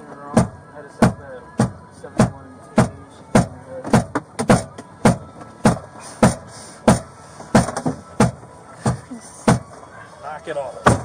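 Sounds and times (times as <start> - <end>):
head banging against car interior: 0.3 - 9.8.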